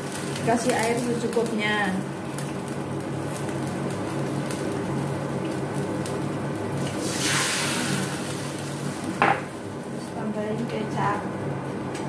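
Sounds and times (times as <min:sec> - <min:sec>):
water hitting hot oil hissing: 0:00.0 - 0:09.8
oil sizzling in a wok: 0:00.0 - 0:11.8
gas burner hum: 0:00.0 - 0:12.0.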